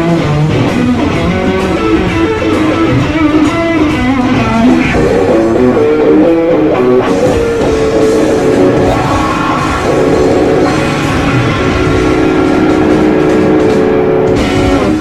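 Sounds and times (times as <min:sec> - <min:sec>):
blues-rock band playing: 0:00.0 - 0:15.0
electric guitar line: 0:00.0 - 0:15.0.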